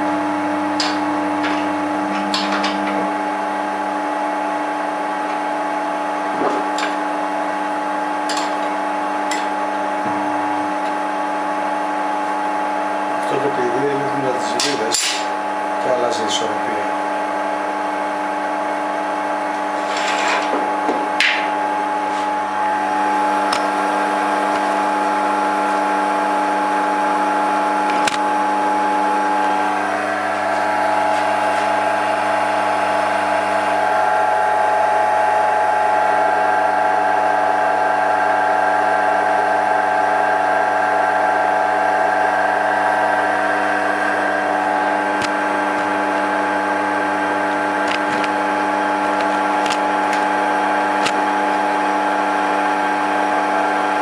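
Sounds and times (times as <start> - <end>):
lathe motor humming: 0.0 - 54.0.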